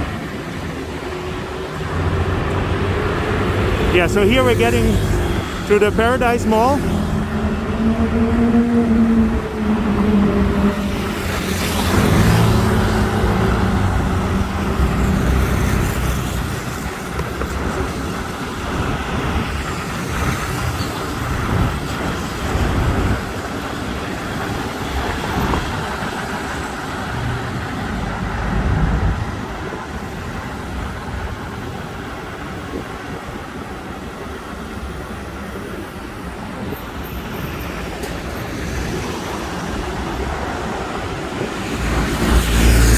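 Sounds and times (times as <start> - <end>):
passing cars and trucks: 0.0 - 42.9.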